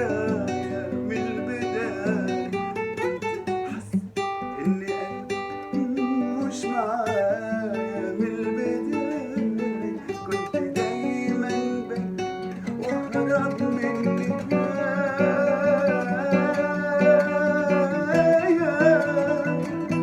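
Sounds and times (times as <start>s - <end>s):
plucked string instrument: 0.0s - 20.0s
wordless wavering vocal melody: 0.0s - 20.0s.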